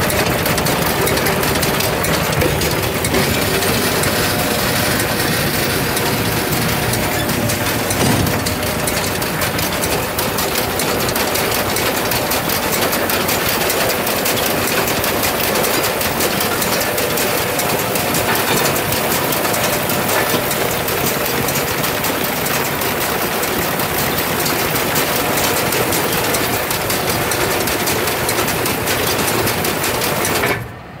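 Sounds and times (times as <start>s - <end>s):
baler mechanical rattle: 0.0s - 30.8s
tractor engine hum: 0.0s - 31.0s.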